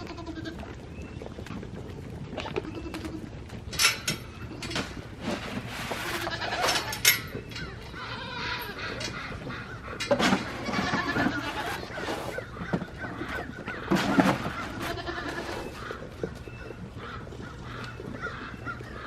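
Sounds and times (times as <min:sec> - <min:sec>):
goats bleating: 0:00.0 - 0:00.8, 0:02.4 - 0:03.5, 0:04.2 - 0:18.9.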